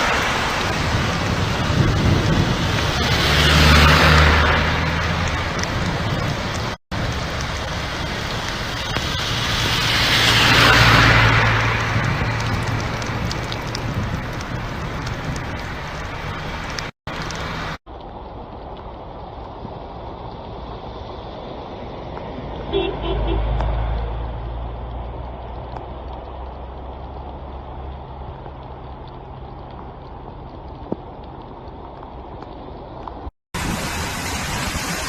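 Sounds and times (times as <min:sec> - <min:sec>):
heavy rain pouring: 0:00.0 - 0:35.0
vehicles passing on wet road: 0:00.0 - 0:35.0.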